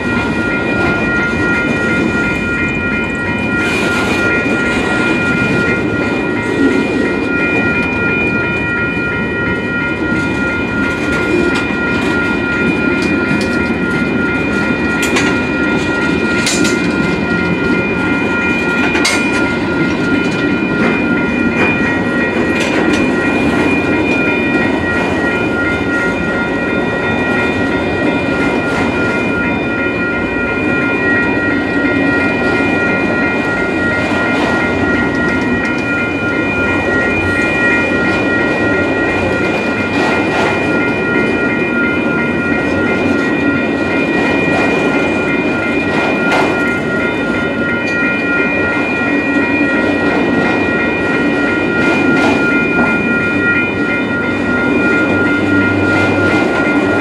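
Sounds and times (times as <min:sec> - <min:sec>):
crossing bell ringing: 0:00.0 - 0:57.0
freight train cars rumbling: 0:00.0 - 0:57.0.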